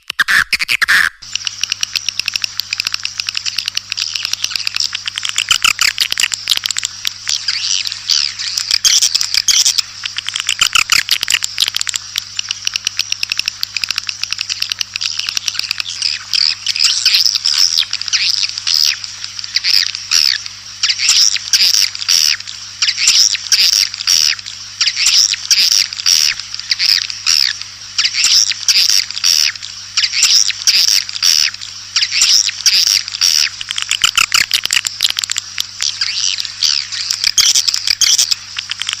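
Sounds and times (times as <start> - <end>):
swiftlets twittering and clicking: 0.0 - 39.0.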